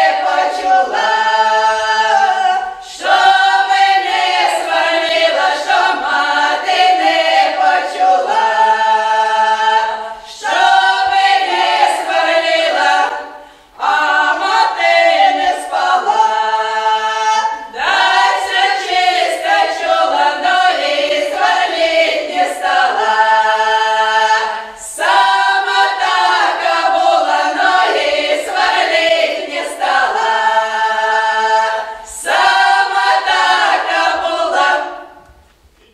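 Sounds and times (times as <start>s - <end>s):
women singing a cappella: 0.0s - 35.9s.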